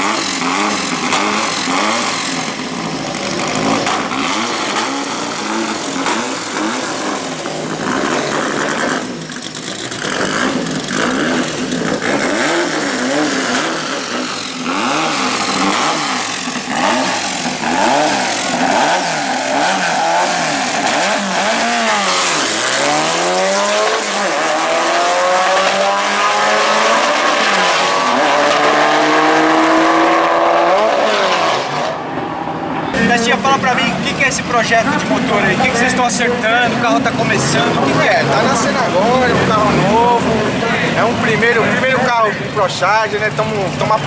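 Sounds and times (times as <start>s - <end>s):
supercharger whine: 0.0s - 41.6s
drag racing engines revving: 0.0s - 44.0s.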